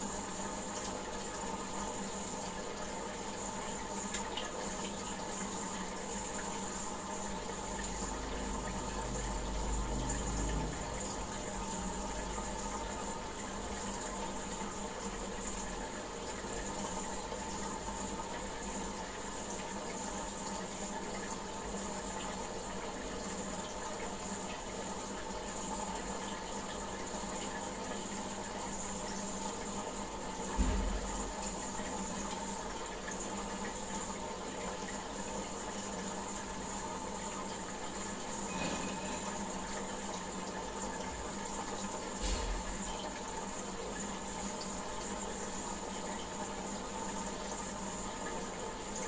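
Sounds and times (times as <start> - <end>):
aquarium water trickling: 0.0 - 49.0.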